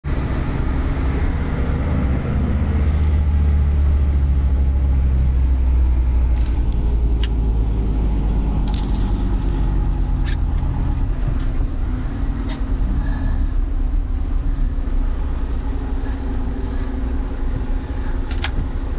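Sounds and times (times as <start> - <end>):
truck diesel engine drone: 0.0 - 18.9.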